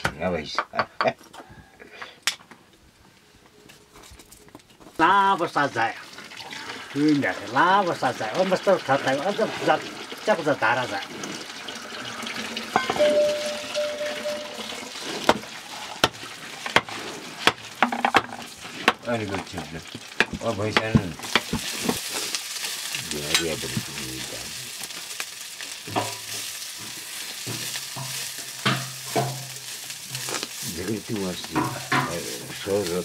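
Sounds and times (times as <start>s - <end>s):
food sizzling in a wok: 5.0s - 33.0s.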